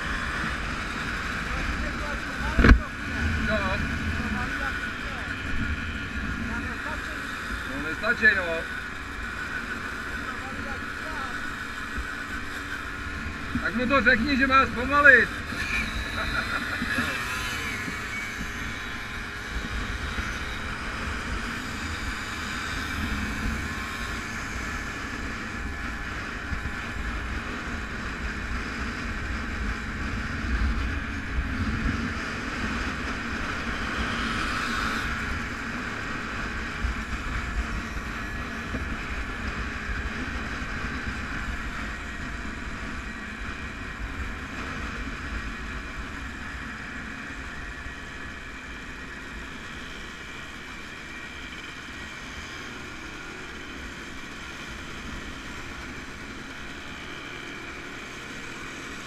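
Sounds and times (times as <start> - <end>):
motorcycle running: 0.0 - 59.0.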